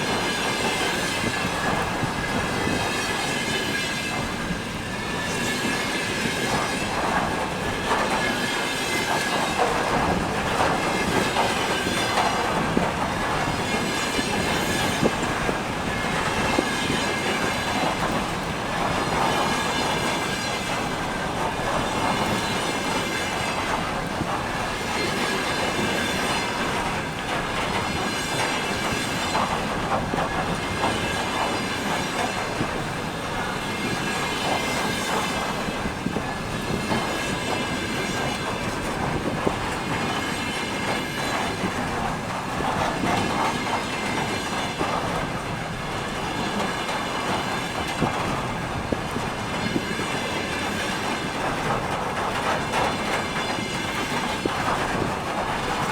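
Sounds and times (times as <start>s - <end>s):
train wheels clattering over rail joints: 0.0s - 55.9s.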